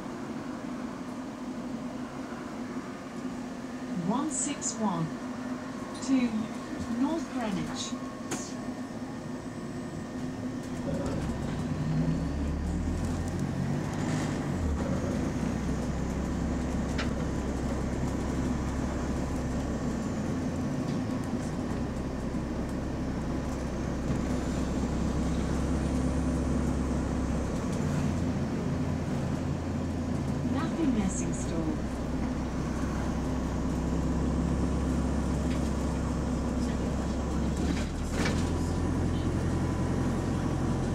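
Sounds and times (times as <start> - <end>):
bus diesel engine accelerating: 0.0 - 40.9.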